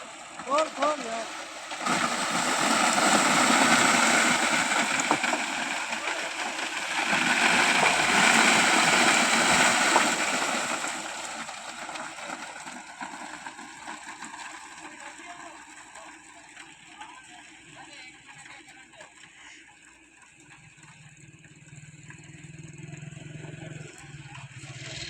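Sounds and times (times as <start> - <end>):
wet concrete pouring and splashing: 0.0 - 21.2.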